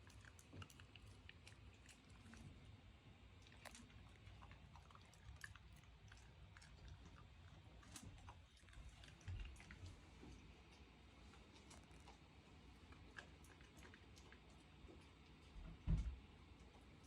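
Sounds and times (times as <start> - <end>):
dog chewing a toy: 0.0 - 15.7.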